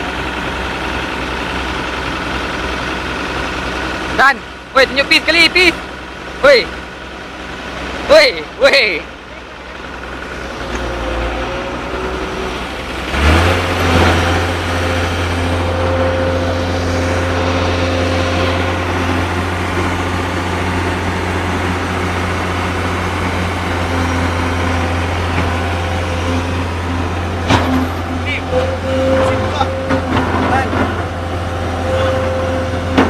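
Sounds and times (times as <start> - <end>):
excavator diesel engine under load: 0.0 - 33.0.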